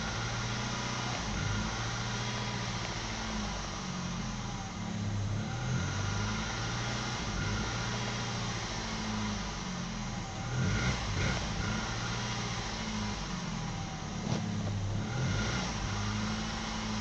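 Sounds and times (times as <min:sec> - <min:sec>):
car engine running inside cabin: 0:00.0 - 0:17.0.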